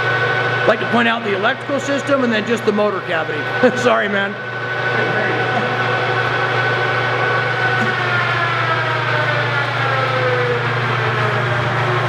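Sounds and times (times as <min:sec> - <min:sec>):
gear whine: 0:00.0 - 0:12.0
milling machine motor hum: 0:00.0 - 0:12.0.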